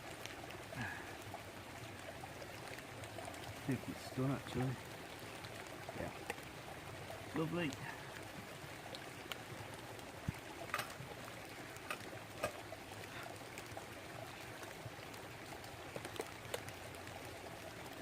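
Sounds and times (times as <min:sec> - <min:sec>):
brook babbling: 0:00.0 - 0:18.0.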